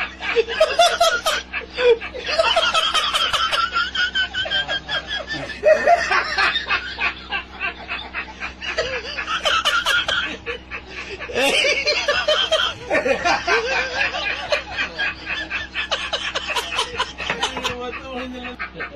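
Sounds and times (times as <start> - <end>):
people laughing: 0.0 - 18.9.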